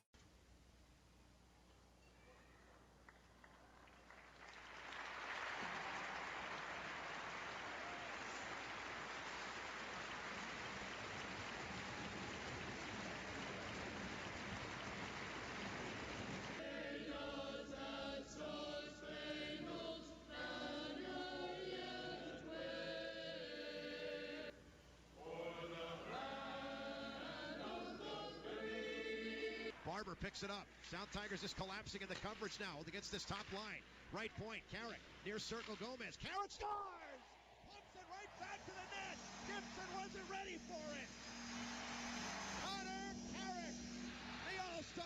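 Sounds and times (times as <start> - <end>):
arena crowd noise: 2.2 - 22.9, 29.1 - 45.0.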